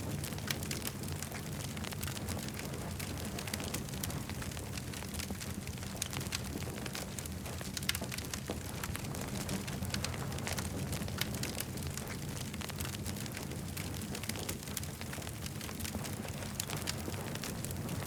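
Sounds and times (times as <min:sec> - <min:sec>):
campfire rumbling: 0:00.0 - 0:18.0
wood crackling and popping: 0:00.0 - 0:18.0.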